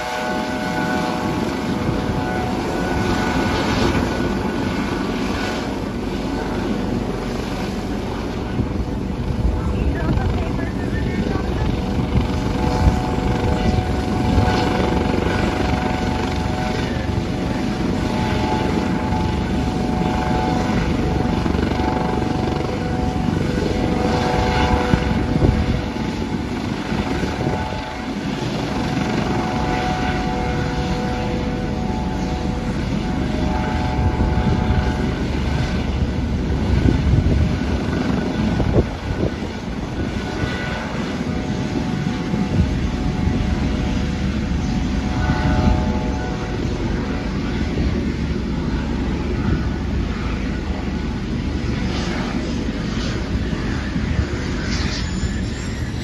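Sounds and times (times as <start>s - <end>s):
helicopter engines whining: 0.0s - 56.0s.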